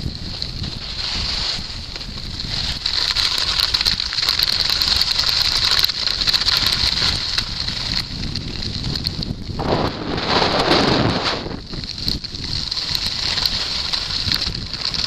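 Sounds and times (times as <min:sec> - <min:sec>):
skis sliding over snow: 0:00.0 - 0:15.0
wind rumbling on microphone: 0:00.0 - 0:15.0.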